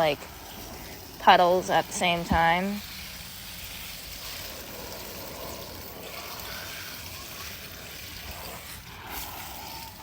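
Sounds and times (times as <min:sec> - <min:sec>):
hose water splashing on ground: 0:00.0 - 0:10.0.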